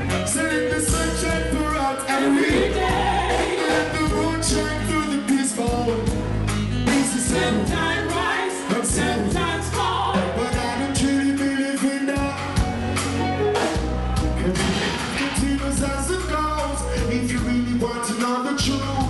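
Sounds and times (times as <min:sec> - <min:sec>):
live reggae band playing: 0:00.0 - 0:19.0
man singing into a microphone: 0:00.1 - 0:06.2, 0:06.8 - 0:12.7, 0:15.2 - 0:19.0.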